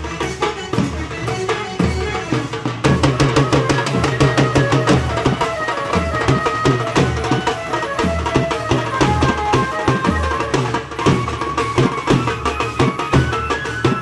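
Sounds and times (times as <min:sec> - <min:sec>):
drums beating fast rhythm: 0:00.0 - 0:14.0
held melody line: 0:00.0 - 0:14.0.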